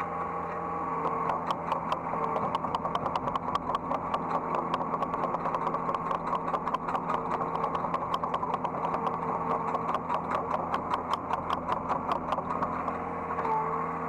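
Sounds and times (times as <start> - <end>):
excavator diesel engine running: 0.1 - 14.0
sharp regular ticks: 1.0 - 13.0.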